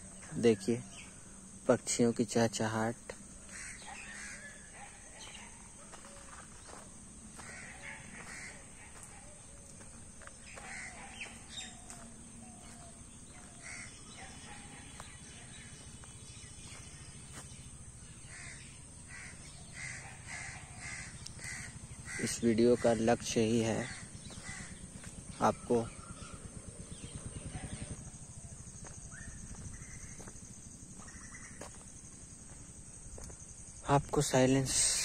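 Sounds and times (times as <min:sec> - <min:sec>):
small birds chirping: 0:00.0 - 0:35.0
crows cawing: 0:03.3 - 0:17.4, 0:18.0 - 0:32.5.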